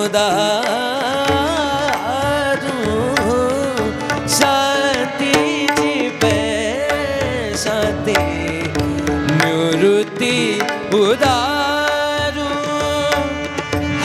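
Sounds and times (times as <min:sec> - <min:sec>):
person singing devotional song: 0:00.0 - 0:14.0
hand drums beating: 0:01.1 - 0:14.0.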